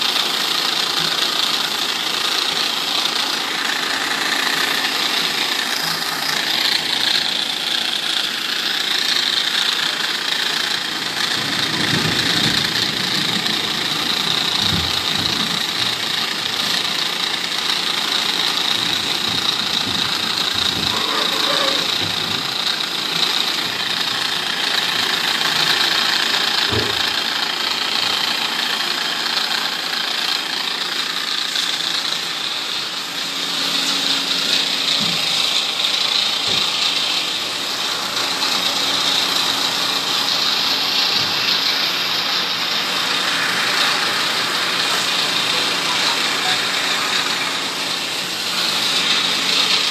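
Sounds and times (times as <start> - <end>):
small motor running: 0.0 - 49.9.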